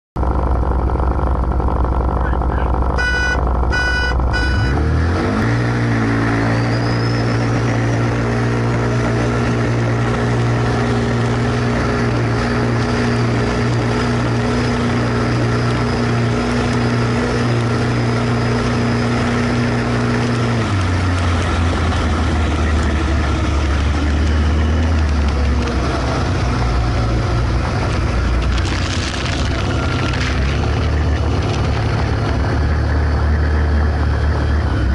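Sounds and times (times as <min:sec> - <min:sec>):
engine revving: 0:00.2 - 0:34.9.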